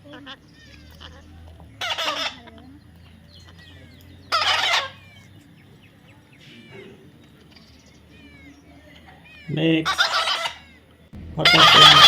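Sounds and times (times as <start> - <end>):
parrot squawking: 0.0 - 7.0, 8.1 - 12.0
faint high bird chirps: 0.0 - 11.1.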